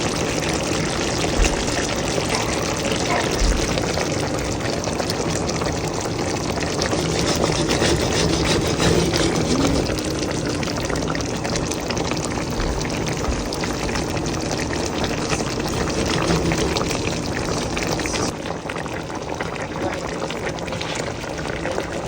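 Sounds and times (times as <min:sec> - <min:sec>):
pot bubbling with hiss: 0:00.0 - 0:22.0.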